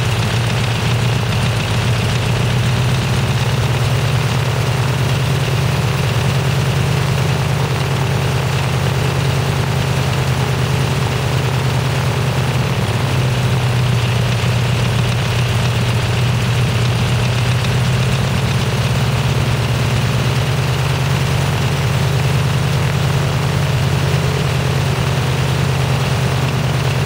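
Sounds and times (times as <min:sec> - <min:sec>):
aircraft engine idling: 0:00.0 - 0:27.0.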